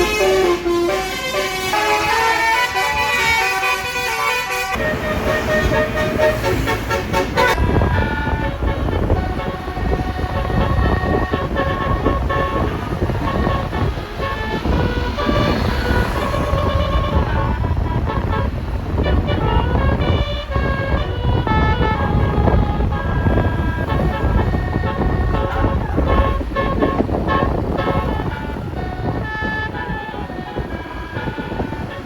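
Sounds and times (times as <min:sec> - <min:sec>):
air horns playing a tune: 0:00.0 - 0:32.0
engine and street noise: 0:00.0 - 0:32.0.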